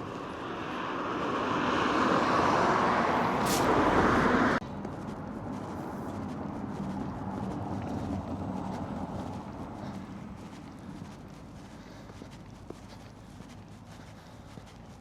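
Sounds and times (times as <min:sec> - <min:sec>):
outdoor background noise: 0:00.0 - 0:15.0
vehicle road noise: 0:00.0 - 0:15.0.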